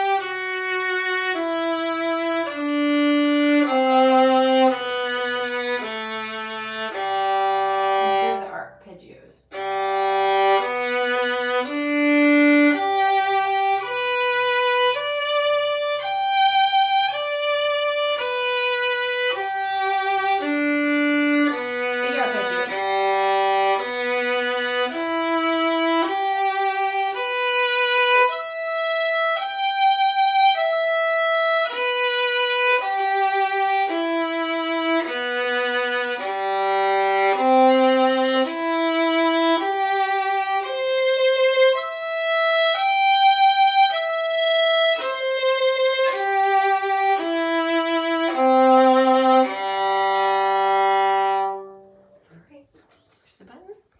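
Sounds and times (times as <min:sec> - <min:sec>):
violin playing bowed scale: 0:00.0 - 0:08.6, 0:09.5 - 0:52.3.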